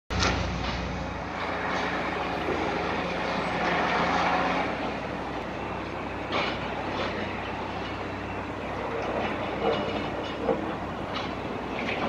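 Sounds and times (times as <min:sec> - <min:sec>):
dense rushing noise: 0:00.1 - 0:12.0
diesel engine running: 0:00.1 - 0:12.0.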